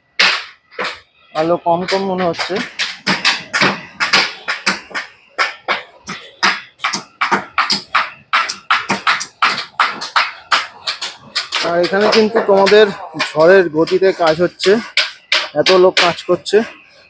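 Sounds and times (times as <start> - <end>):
tools striking bamboo poles: 0.1 - 16.9.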